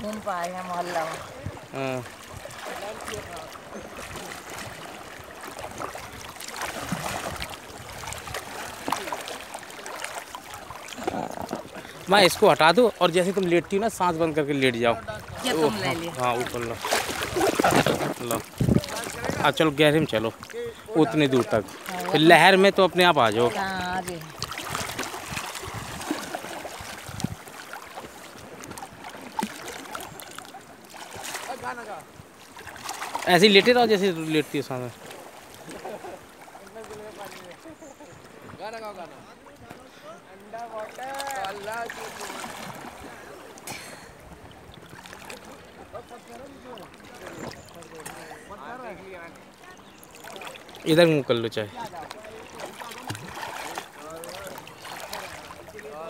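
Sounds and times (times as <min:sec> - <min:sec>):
seawater splashing from paddling hands: 0:00.0 - 0:56.0.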